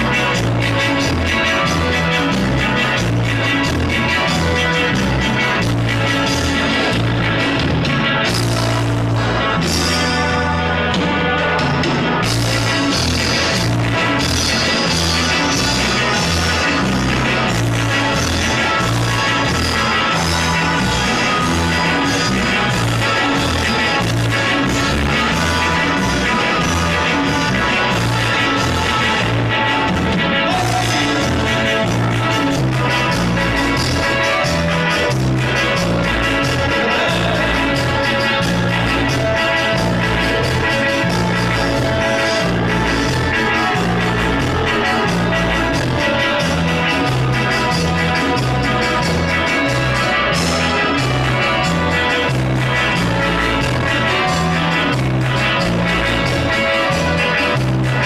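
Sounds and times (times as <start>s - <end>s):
live dance band through loudspeakers: 0.0s - 58.0s.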